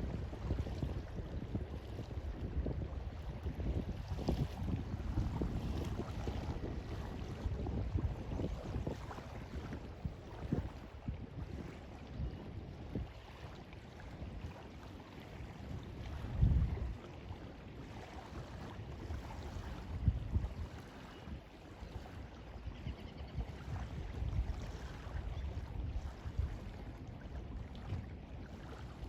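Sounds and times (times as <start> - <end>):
water lapping against shore: 0.0 - 29.0
wind: 0.0 - 29.0
wind buffeting microphone: 0.0 - 29.0.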